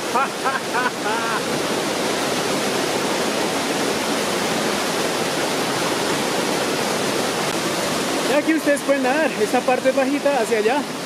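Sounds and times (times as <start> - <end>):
waterfall rushing into pool: 0.0 - 11.0.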